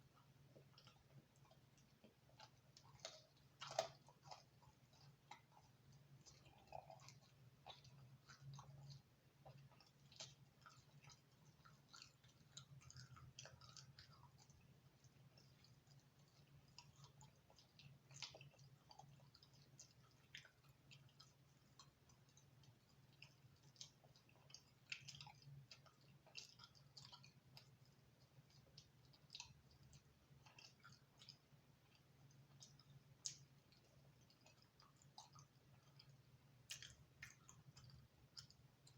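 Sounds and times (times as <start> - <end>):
faint steady hum: 0.0 - 38.9
person chewing pizza: 0.0 - 38.9.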